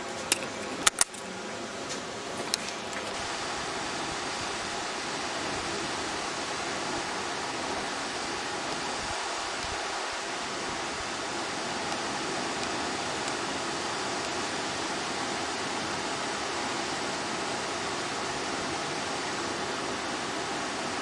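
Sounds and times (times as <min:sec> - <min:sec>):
water rushing down cascades: 0:03.0 - 0:21.0.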